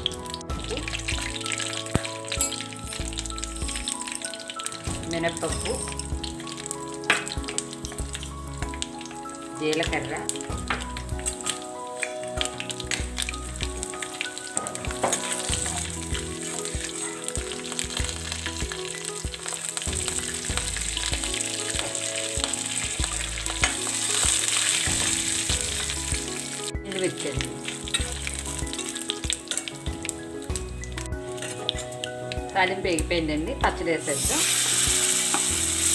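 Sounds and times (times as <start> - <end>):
spices sizzling in hot oil: 0.0 - 35.9.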